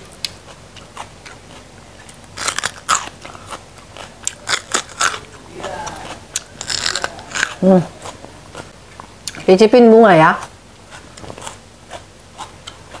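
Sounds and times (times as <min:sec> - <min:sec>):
crunching and chewing: 0:00.0 - 0:09.4, 0:10.4 - 0:13.0.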